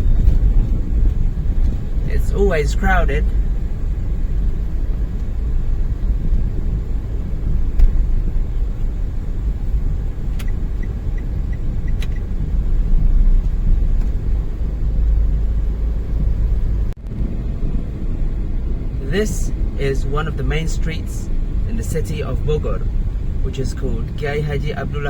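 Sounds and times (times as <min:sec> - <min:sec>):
low rumble of vehicle travel: 0:00.0 - 0:25.0.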